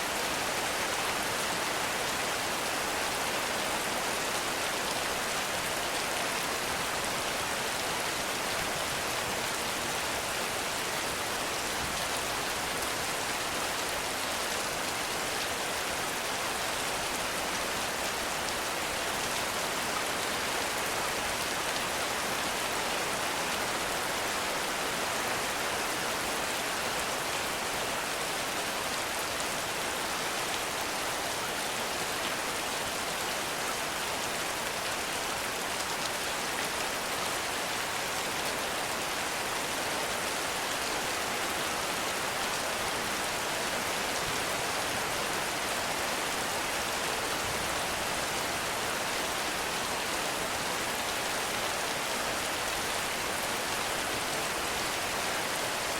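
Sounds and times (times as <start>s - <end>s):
heavy rain on leaves: 0.0s - 55.9s.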